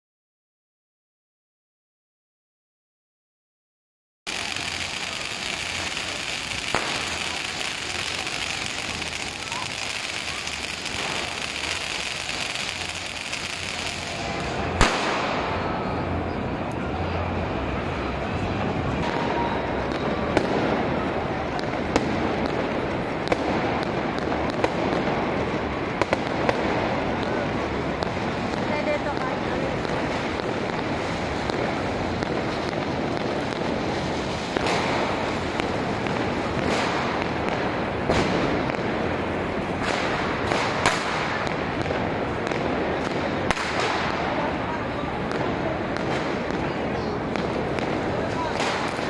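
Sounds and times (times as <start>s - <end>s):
crowd noise: 4.3s - 49.0s
fireworks bangs and cracks: 4.3s - 49.0s.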